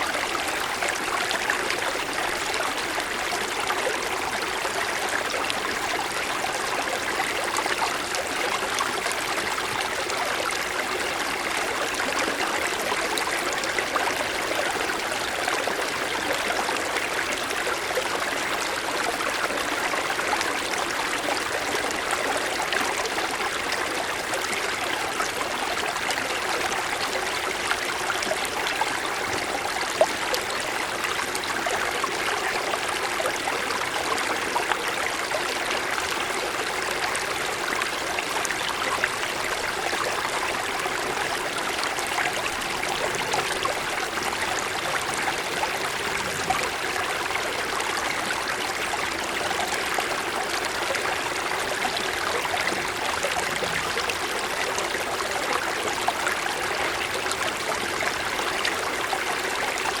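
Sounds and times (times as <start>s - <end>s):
stream flowing over stones: 0.0s - 60.0s.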